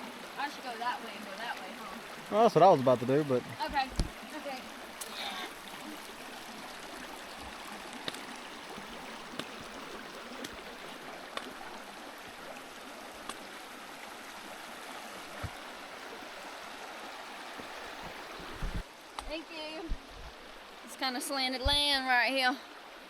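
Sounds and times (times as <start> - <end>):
water rushing over rocks: 0.0 - 22.5.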